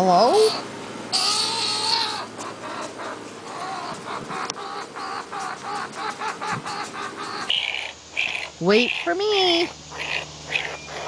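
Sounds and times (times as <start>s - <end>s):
baby skunk chirping cries: 0.1s - 11.0s
baby skunk squealing cry: 0.2s - 11.0s.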